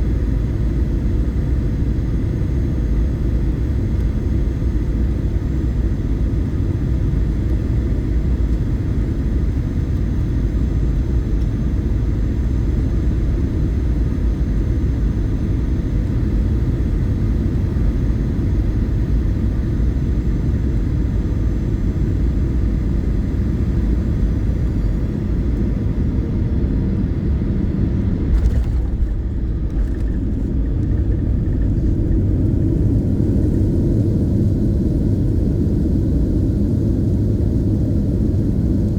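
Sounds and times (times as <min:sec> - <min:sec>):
airliner engines and airflow rumble: 0:00.0 - 0:38.9.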